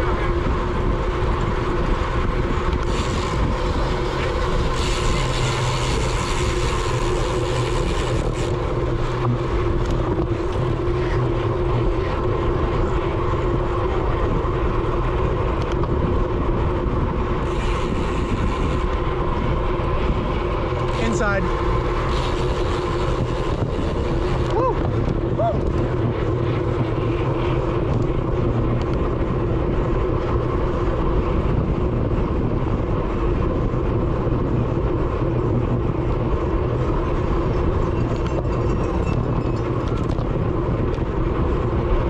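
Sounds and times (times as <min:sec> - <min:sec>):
wind rush while cycling: 0:00.0 - 0:42.0.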